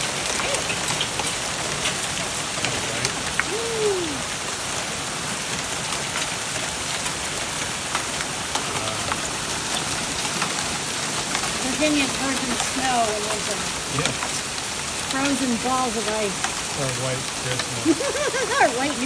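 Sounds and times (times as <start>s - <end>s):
hailstones pelting down: 0.0s - 19.0s.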